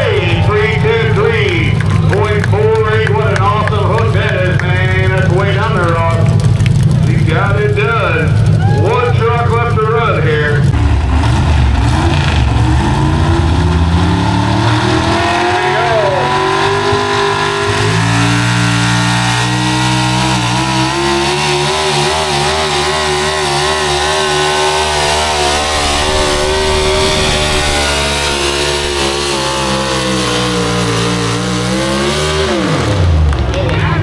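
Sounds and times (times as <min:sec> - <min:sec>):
truck engine revving hard: 0:00.0 - 0:34.0.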